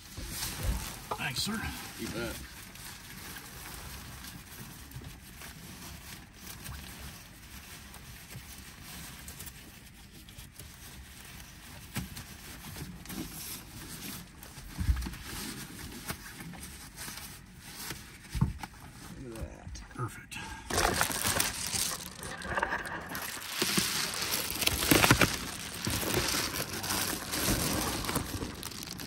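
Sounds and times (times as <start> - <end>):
foil rustling and crinkling: 0.0 - 19.4, 20.7 - 29.0.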